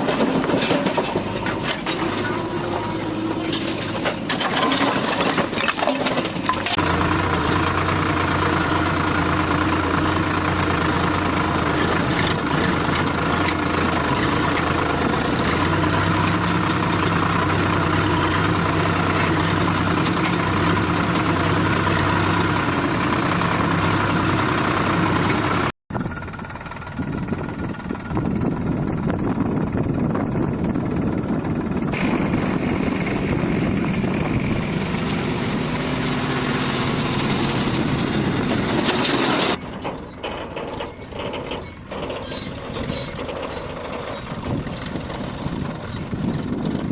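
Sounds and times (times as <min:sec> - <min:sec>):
heavy machinery diesel engine running: 0:00.0 - 0:46.9.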